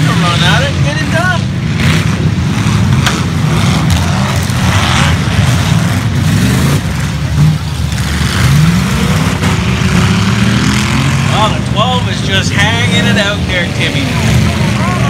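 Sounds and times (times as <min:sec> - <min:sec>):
engine accelerating: 0:00.0 - 0:15.0
race car engines: 0:00.0 - 0:15.0.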